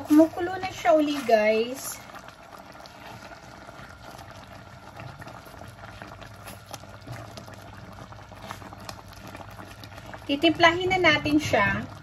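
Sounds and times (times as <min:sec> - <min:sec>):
liquid bubbling in a wok: 0:00.0 - 0:12.0.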